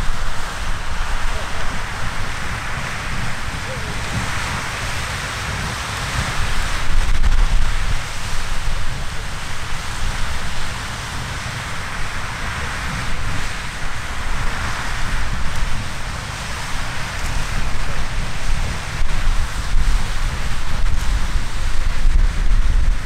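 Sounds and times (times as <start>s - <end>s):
geyser water jet hissing: 0.0s - 23.0s
wind rumble on microphone: 0.0s - 23.0s.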